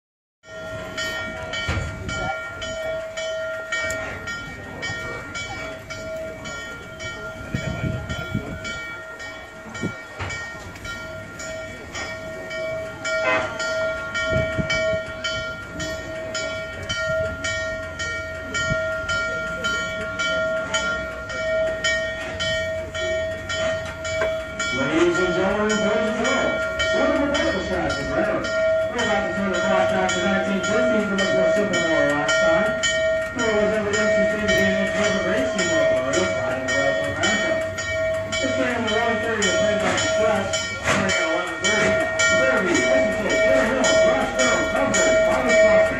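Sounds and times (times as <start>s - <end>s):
steam locomotive bell ringing: 0.4s - 45.9s.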